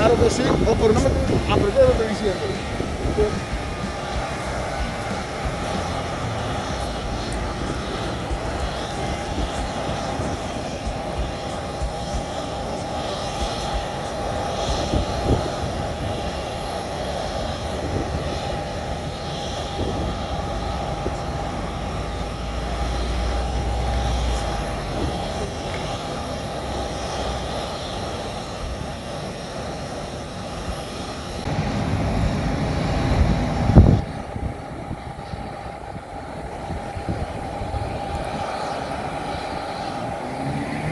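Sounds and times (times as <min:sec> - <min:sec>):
jet engines whining and rushing: 0:00.0 - 0:40.9.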